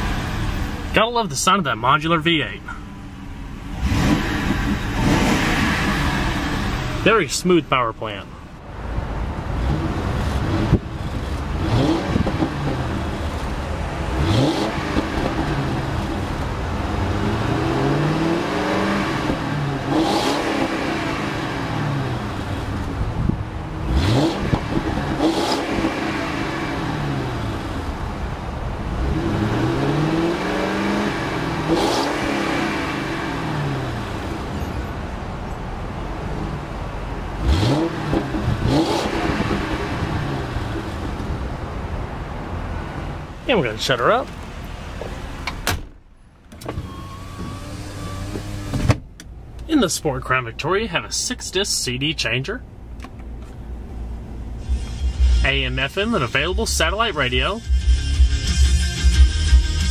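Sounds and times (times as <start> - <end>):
car engine revving: 0.0 - 45.6, 46.6 - 59.9.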